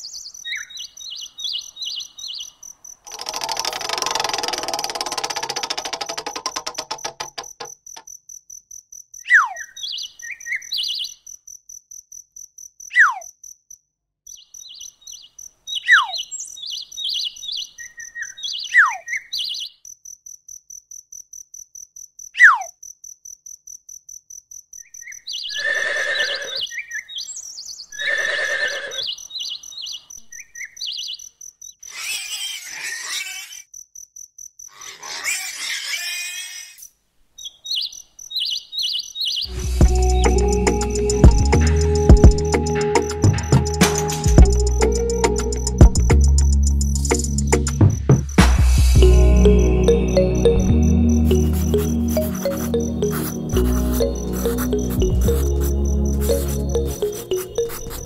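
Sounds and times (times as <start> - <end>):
insects chirping: 0.0 - 48.4, 49.0 - 58.0.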